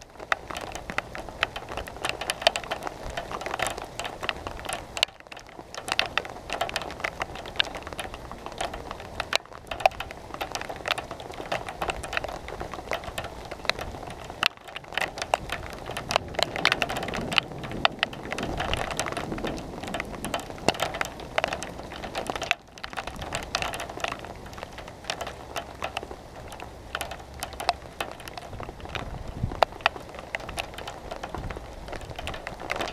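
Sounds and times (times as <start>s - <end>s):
rain drops tapping: 0.0s - 32.9s
steady hiss of rainfall: 0.0s - 32.9s.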